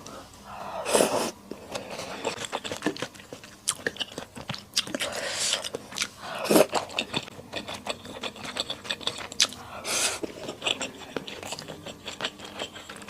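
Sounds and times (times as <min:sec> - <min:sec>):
close-miked chewing: 0:01.5 - 0:13.0.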